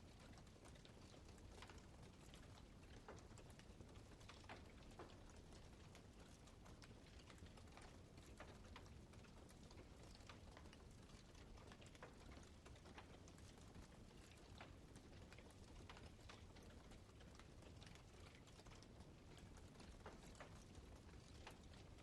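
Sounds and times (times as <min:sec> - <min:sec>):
wood fire crackling: 0:00.2 - 0:22.0.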